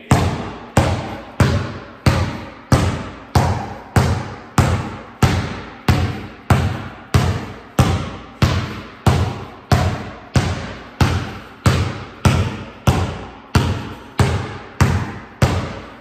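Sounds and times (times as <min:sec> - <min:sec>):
basketball bouncing on concrete: 0:00.0 - 0:16.0.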